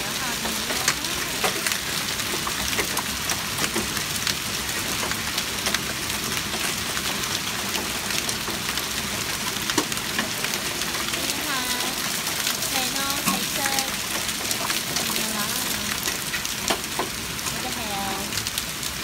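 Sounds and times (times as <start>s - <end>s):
hail falling on concrete: 0.0s - 19.0s.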